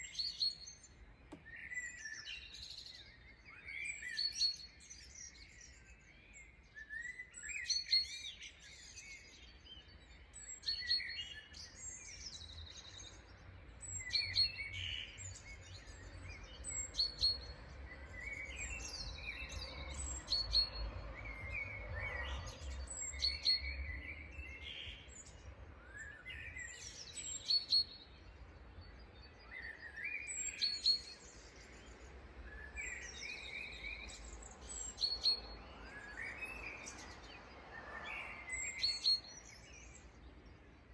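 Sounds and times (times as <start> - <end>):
birds chirping and calling: 7.0 - 40.8.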